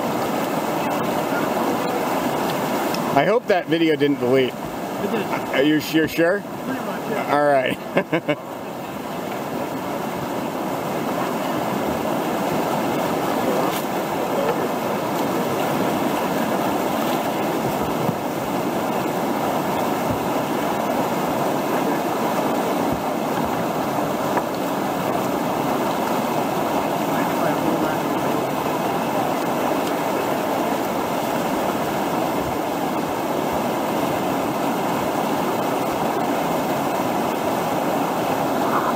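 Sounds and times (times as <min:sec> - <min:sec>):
whitewater rushing: 0:00.0 - 0:38.9.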